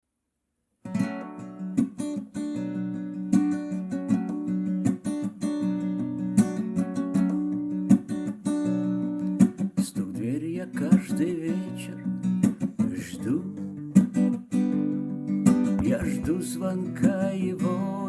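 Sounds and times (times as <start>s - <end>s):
strummed acoustic guitar: 0.8s - 18.0s.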